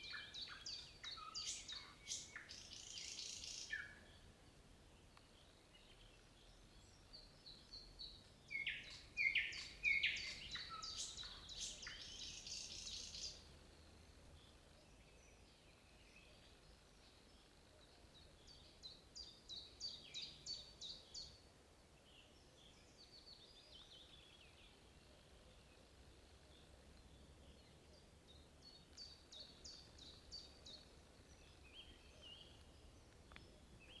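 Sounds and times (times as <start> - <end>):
nightingale singing: 0.0 - 4.3, 5.0 - 21.4, 22.0 - 34.0
faint background hiss: 0.0 - 34.0.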